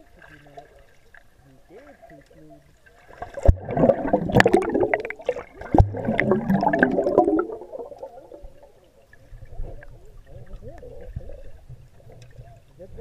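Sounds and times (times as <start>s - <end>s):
muffled underwater bubbling: 0.0s - 13.0s.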